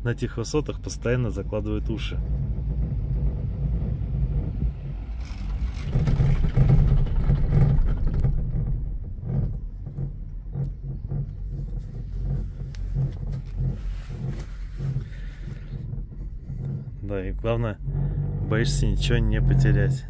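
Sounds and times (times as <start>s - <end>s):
cable car pulsing rumble: 0.0s - 20.0s
cable car rushing noise: 0.1s - 20.0s.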